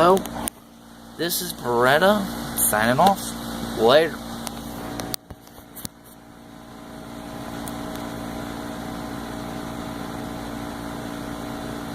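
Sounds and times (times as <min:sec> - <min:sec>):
mechanical hum: 0:00.0 - 0:11.9.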